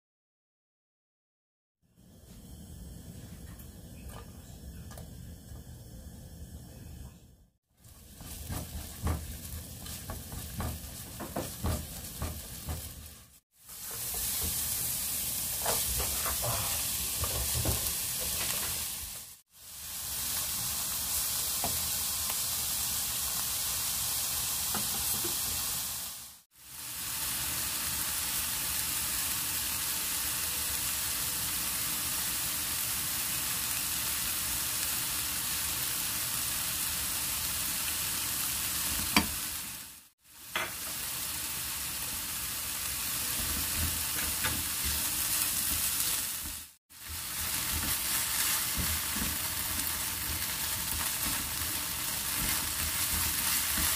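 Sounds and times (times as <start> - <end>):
garlic and onion sizzling in oil: 7.7 - 53.9.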